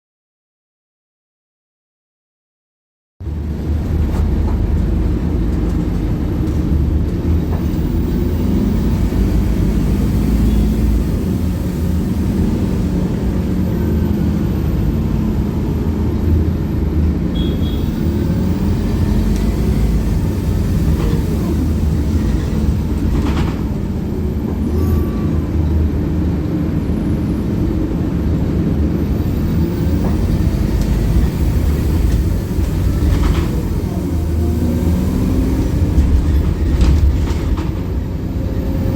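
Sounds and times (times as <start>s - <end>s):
bus engine drone: 3.2s - 38.9s.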